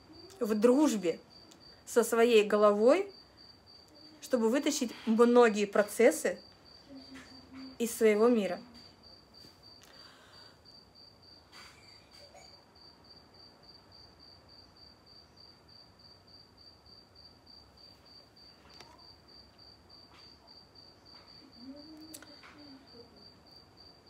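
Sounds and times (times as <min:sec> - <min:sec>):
faint insect chirping: 0:00.0 - 0:24.0.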